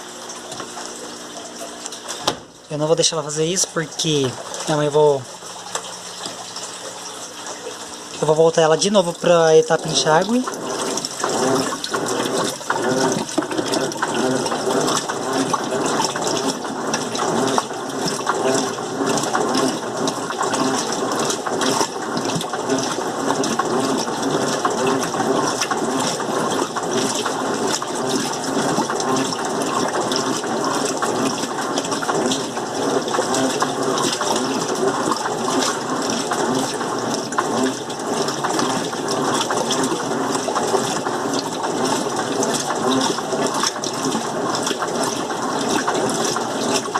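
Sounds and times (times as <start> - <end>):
water gushing into washing machine: 0.0 - 46.9.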